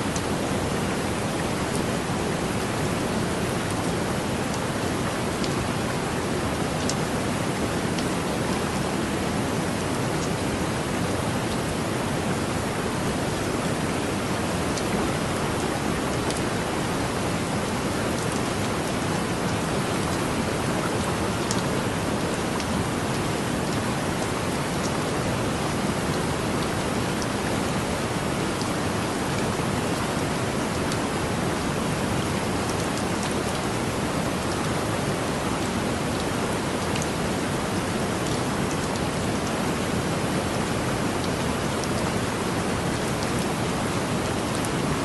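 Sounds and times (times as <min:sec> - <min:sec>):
heavy rain falling: 0:00.0 - 0:45.0.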